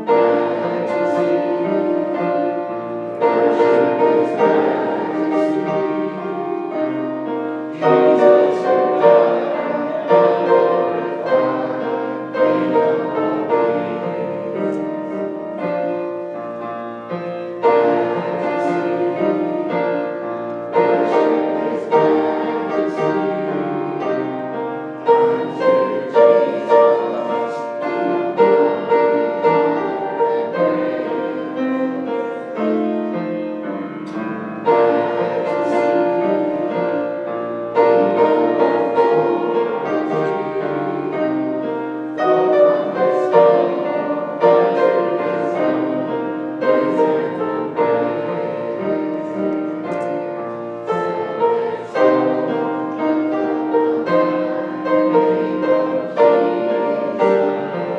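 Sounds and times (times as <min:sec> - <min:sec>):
piano playing slow hymn: 0:00.0 - 0:57.9.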